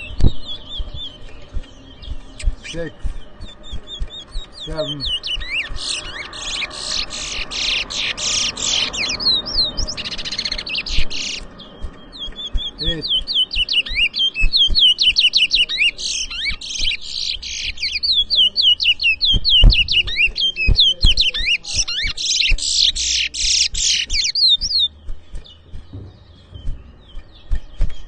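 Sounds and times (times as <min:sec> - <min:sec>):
finch singing whistled song: 0:00.0 - 0:28.0.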